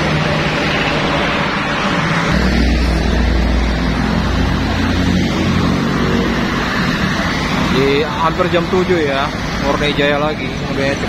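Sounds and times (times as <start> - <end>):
heavy vehicle engine rumble: 0.0 - 11.0
highway traffic noise: 0.0 - 11.0.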